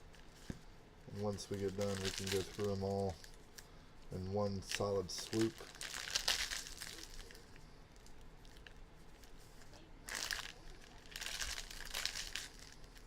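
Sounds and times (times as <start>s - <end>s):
plastic wrappers tearing and crinkling: 1.1s - 3.7s, 4.4s - 13.0s.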